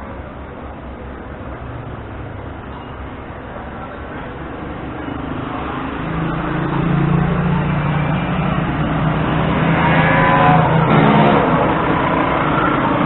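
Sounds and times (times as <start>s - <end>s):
nearby vehicle engine: 0.0s - 13.0s
street traffic rumbling: 0.0s - 13.0s.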